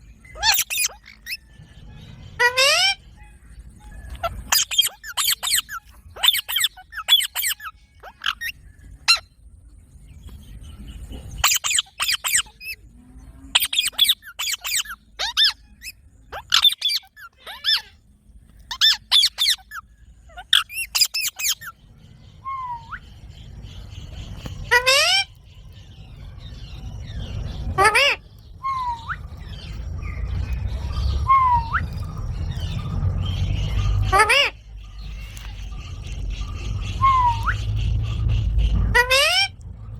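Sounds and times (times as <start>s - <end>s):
parrots screeching: 0.2s - 9.3s, 11.4s - 12.8s, 13.5s - 18.0s, 18.6s - 23.1s, 24.3s - 25.4s, 26.7s - 39.8s.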